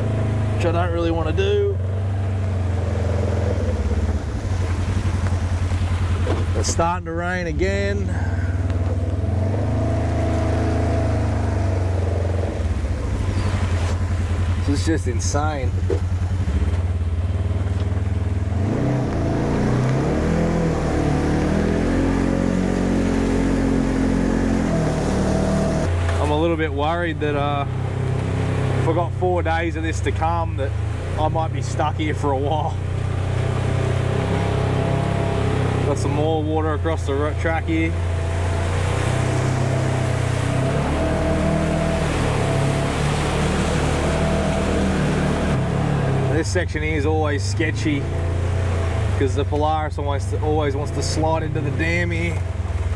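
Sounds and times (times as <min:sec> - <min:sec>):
utility vehicle engine revving: 0:00.0 - 0:52.9
water splashing: 0:00.0 - 0:52.9.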